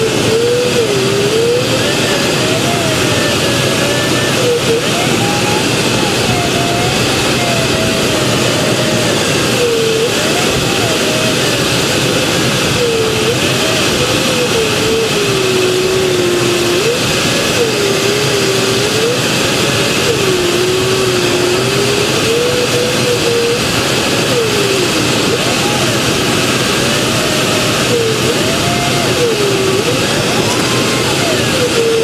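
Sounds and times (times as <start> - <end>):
variometer tone sliding in pitch: 0.0 - 32.0.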